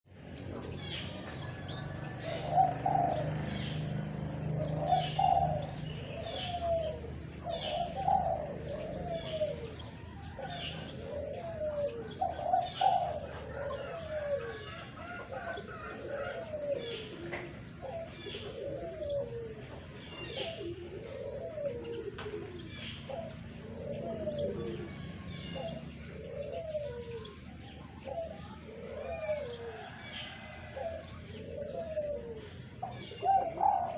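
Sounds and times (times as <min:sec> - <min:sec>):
doves cooing: 0:00.1 - 0:33.9
small birds chirping: 0:00.1 - 0:33.9.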